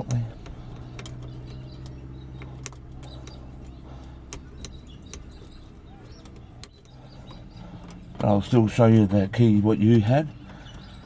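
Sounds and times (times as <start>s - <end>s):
engine idling quietly: 0.0s - 11.0s.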